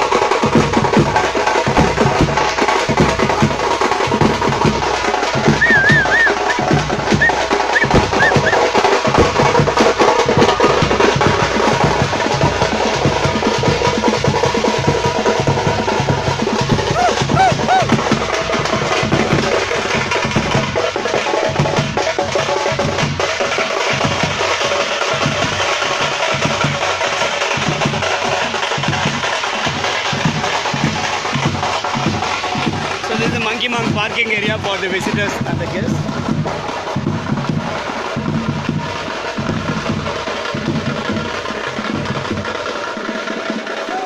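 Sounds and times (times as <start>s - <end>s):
frame drums beaten fast: 0.0s - 44.0s.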